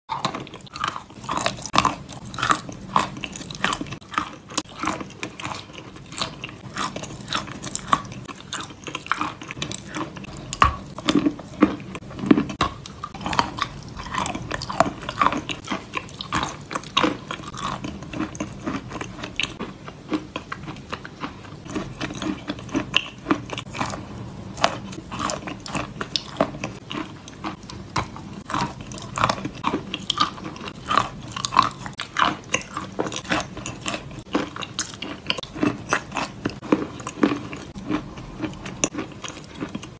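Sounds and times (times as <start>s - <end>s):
person chewing: 0.1s - 39.9s.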